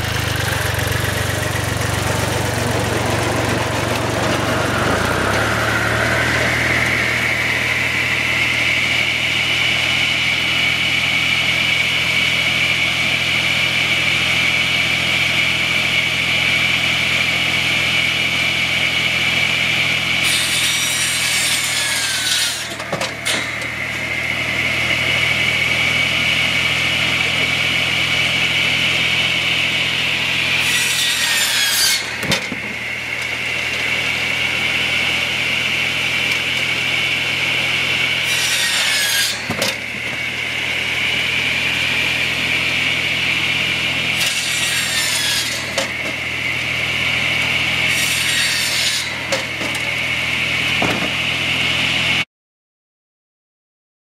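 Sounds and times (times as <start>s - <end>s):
diesel tractor idling: 0.0s - 20.2s, 22.7s - 30.6s, 32.0s - 38.3s, 39.4s - 44.2s, 45.6s - 48.0s, 49.2s - 52.2s
saw rasping through log: 0.0s - 52.1s
circular saw whine: 0.0s - 52.2s.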